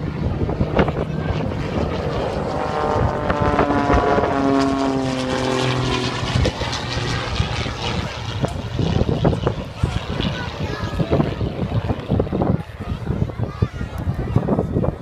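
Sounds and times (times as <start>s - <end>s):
propeller plane engine passing: 0.0s - 15.0s.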